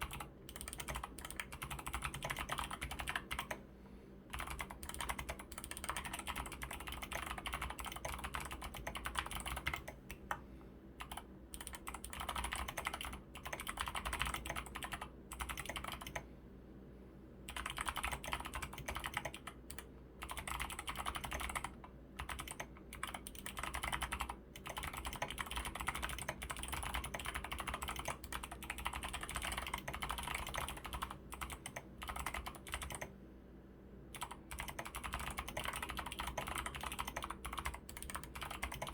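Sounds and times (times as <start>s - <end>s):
mechanical keyboard typing: 0.0s - 3.6s, 4.3s - 10.2s, 11.0s - 16.2s, 17.5s - 33.1s, 34.1s - 38.9s.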